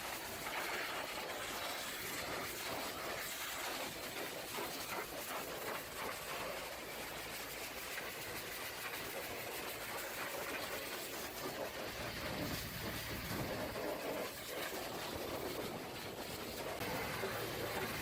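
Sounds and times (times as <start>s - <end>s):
high-pressure water jet spraying: 0.0s - 18.0s.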